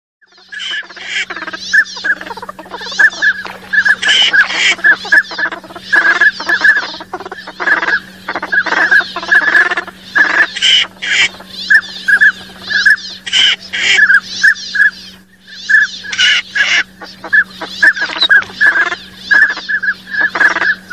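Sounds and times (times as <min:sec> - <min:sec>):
ducks whistling calls: 0:00.2 - 0:20.9
steady low hum: 0:00.2 - 0:20.9
raspy duck calls: 0:00.3 - 0:20.9.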